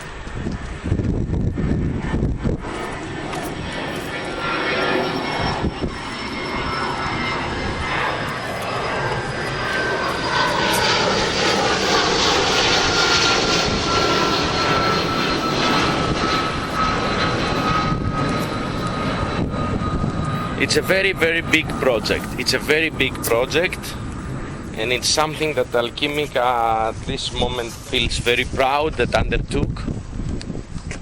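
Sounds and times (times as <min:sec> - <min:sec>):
high engine whine: 0:00.0 - 0:31.0
jet engines roaring: 0:00.0 - 0:31.0.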